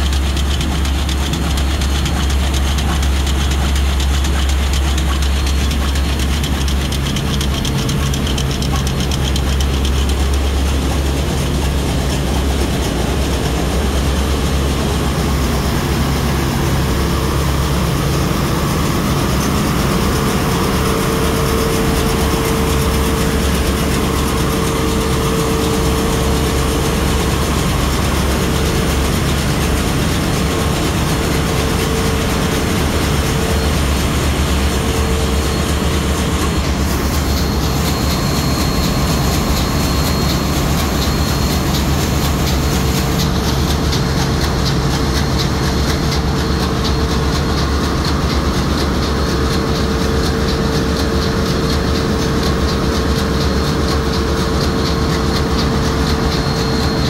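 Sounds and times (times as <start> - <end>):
diesel machinery humming: 0.0 - 57.0
steady machine whine: 0.0 - 57.0.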